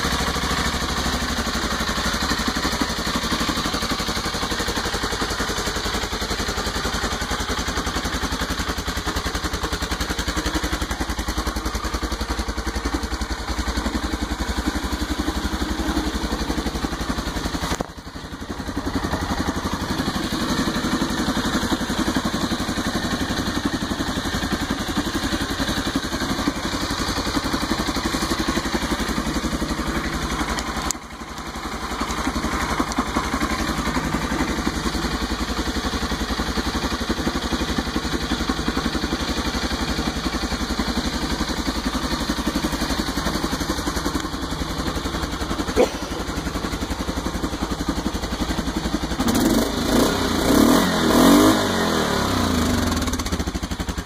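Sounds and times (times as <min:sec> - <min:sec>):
quad bike engine idling: 0:00.0 - 0:54.0.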